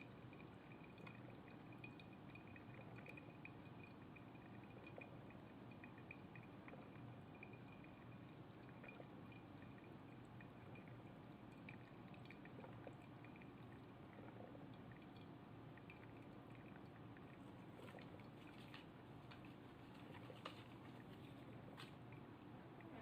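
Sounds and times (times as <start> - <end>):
coffee dripping into glass: 0.0 - 19.5
drip coffee maker brewing: 0.0 - 23.0.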